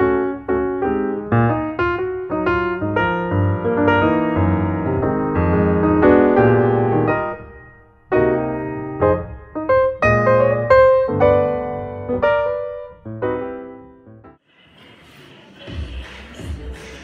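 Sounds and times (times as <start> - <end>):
piano playing chords: 0.0 - 14.4.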